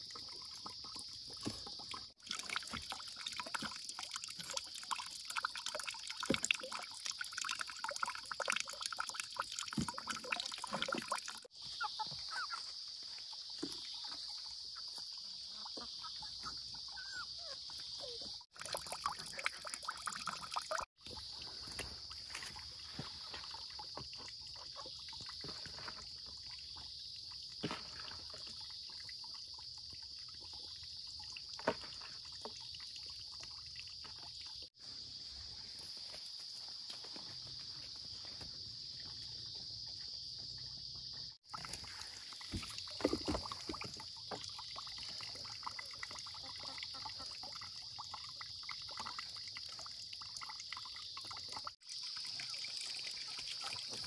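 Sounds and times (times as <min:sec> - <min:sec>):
water trickling and pouring: 0:00.0 - 0:39.7, 0:41.0 - 0:54.0.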